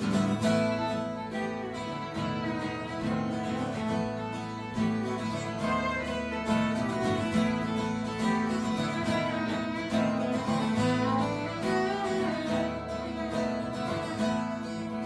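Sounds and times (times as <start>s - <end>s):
fiddle playing melody: 0.0s - 15.0s
strummed acoustic guitar: 0.0s - 15.0s.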